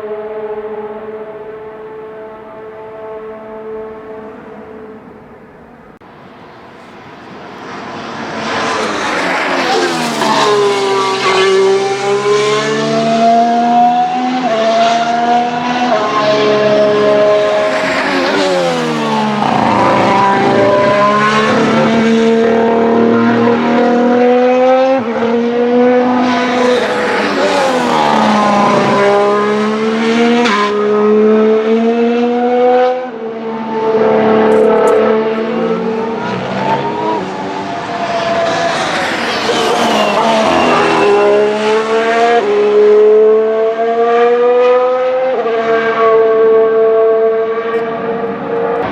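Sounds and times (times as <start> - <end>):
racing cars passing at speed: 0.0 - 48.9.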